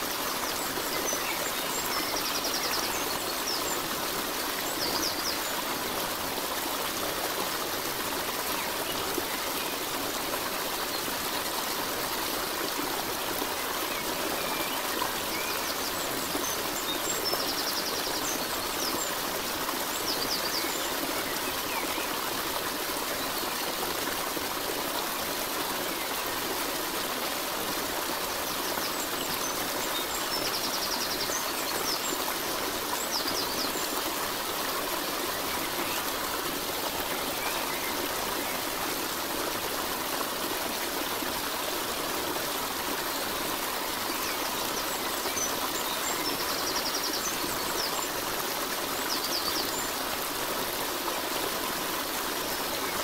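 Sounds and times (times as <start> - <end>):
rushing stream water: 0.0 - 53.0.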